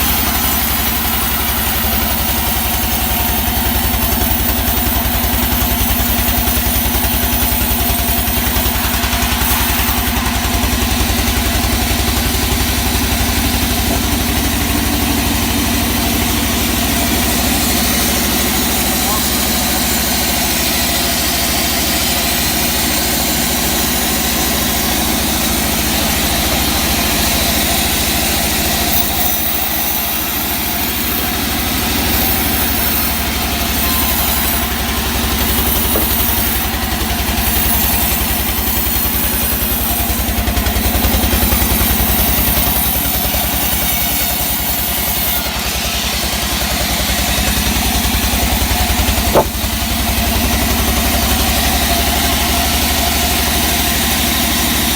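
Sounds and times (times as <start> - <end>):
saw hissing through wood: 0.0 - 53.3.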